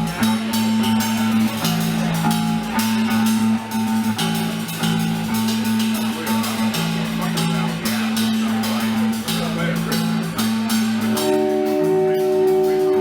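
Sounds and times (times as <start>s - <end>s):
drum kit: 0.0s - 13.0s
guitar chords: 0.0s - 13.0s.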